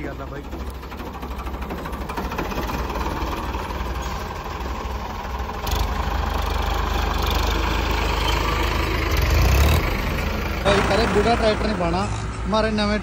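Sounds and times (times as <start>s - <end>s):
tractor engines rumbling: 0.0s - 13.0s.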